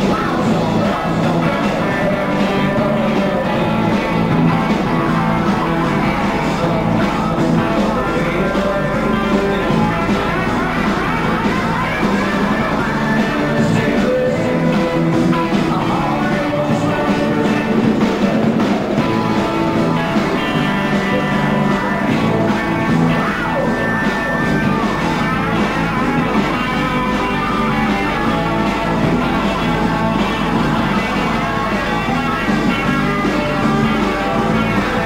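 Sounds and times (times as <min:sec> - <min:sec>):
drums: 0:00.0 - 0:35.0
electric guitar: 0:00.0 - 0:35.0.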